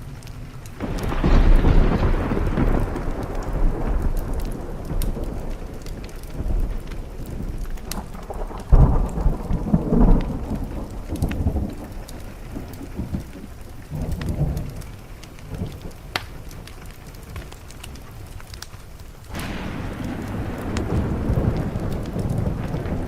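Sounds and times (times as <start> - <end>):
thunder rumbling: 0.0 - 18.4, 19.2 - 23.0
rain on a window: 0.0 - 23.0.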